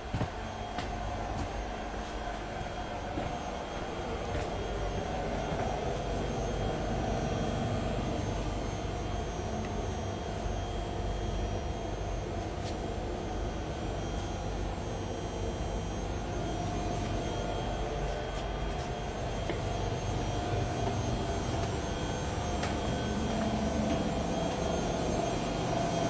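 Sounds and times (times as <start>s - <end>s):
train carriage drone and rumble: 0.0s - 26.0s.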